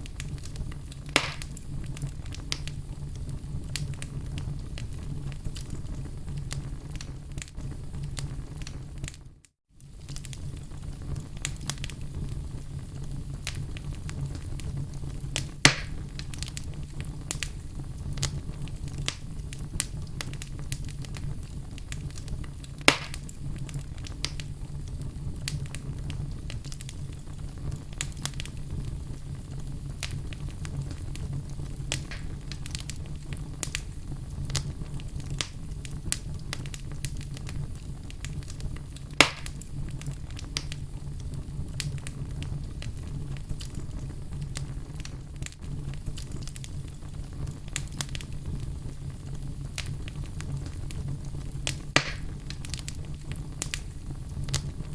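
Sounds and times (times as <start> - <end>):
loud fire pops: 0.0 - 54.9
wood fire crackling: 0.0 - 54.9.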